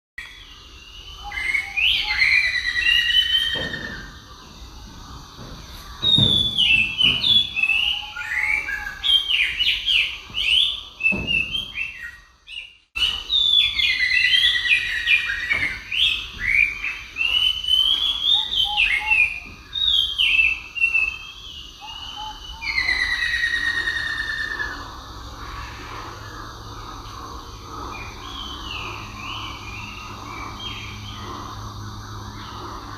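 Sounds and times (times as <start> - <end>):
birds chirping and singing: 0.2 - 32.9.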